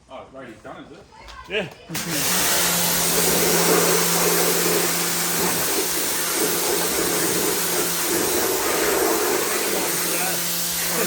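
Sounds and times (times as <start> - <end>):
vacuum cleaner running: 1.9 - 11.0.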